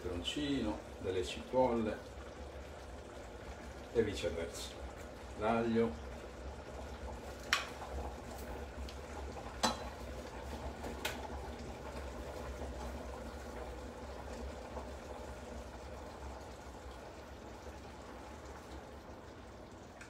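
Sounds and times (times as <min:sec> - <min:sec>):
sauce simmering and bubbling: 0:00.0 - 0:20.0.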